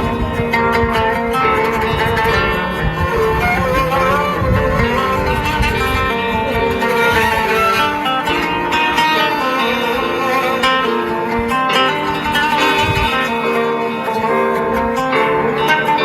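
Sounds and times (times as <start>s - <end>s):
bowed string melody: 0.0s - 16.0s
plucked guitar-like strings: 0.0s - 16.0s.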